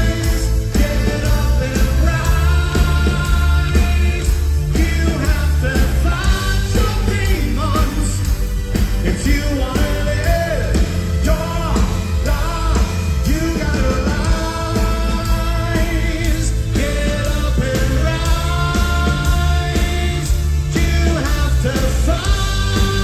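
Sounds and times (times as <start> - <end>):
bass guitar: 0.0 - 23.0
drums: 0.0 - 23.0
electric guitars: 0.0 - 23.0
man singing: 0.0 - 23.0.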